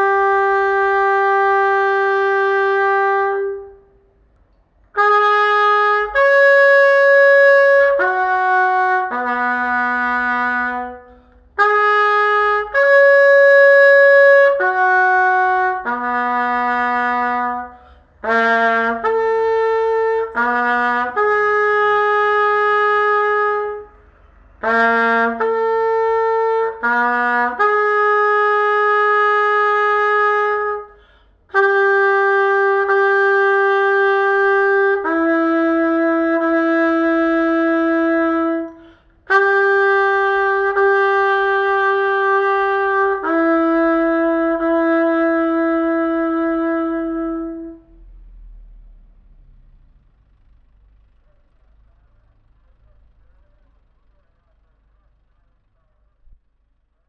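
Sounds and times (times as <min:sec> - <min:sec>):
solo trumpet playing: 0:00.0 - 0:04.0, 0:04.9 - 0:49.0.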